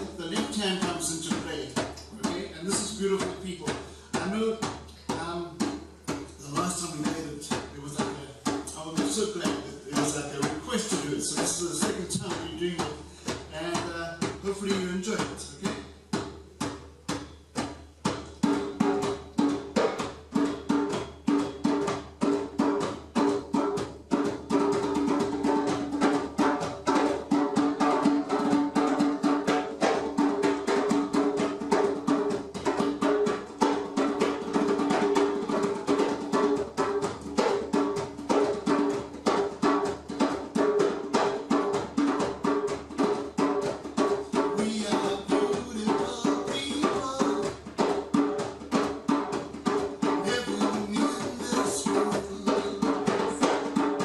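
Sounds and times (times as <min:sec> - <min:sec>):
drums playing fast rhythm: 0:00.0 - 0:54.0.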